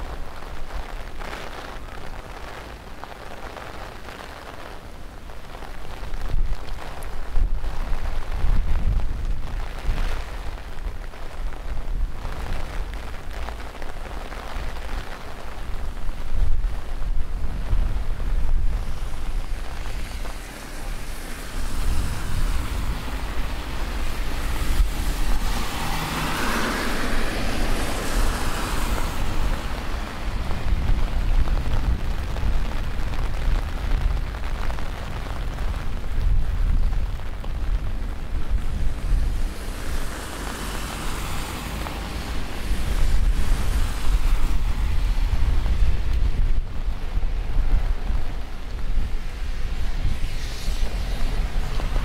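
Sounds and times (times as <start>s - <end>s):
rain hissing on wet pavement: 0.0s - 52.0s
gusty wind buffeting microphone: 4.9s - 52.0s.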